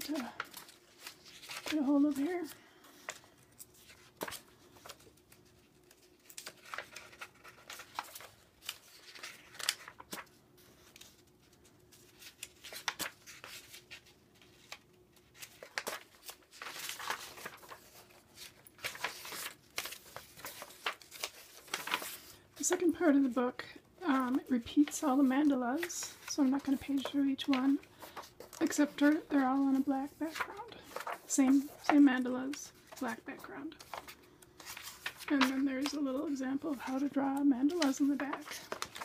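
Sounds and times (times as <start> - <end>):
paper pages turning: 0.0 - 23.4, 24.2 - 39.0.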